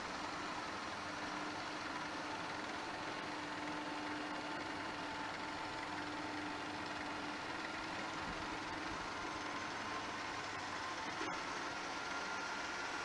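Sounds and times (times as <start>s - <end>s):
milling machine humming: 0.0s - 13.0s.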